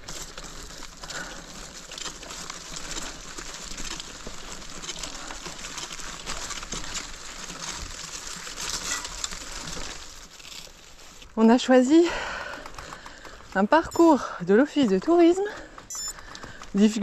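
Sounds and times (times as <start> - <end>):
bike tyres rolling on dirt: 0.0 - 17.0
grit clicks and crackles: 0.0 - 17.0.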